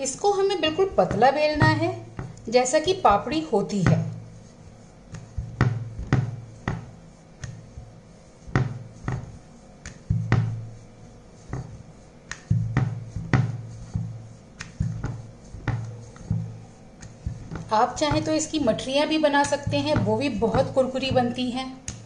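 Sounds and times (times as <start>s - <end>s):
rolling pin knocking on stone: 0.0s - 10.8s, 11.4s - 22.0s
rolling pin rolling over dough: 0.0s - 22.0s.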